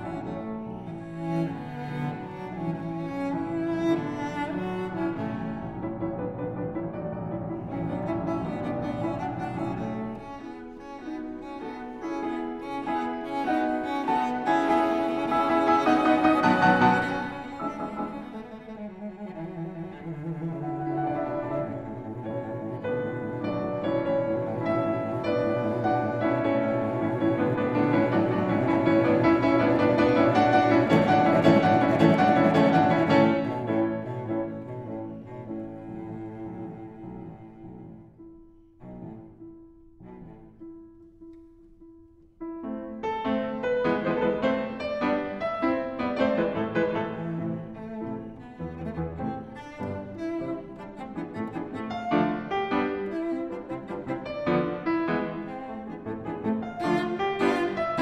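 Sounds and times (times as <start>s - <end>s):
classical piano and strings: 0.0s - 58.0s.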